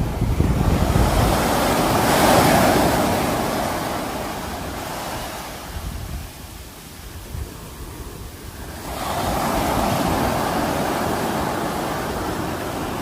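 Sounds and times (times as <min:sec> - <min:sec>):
sea waves washing onto shore: 0:00.0 - 0:13.0.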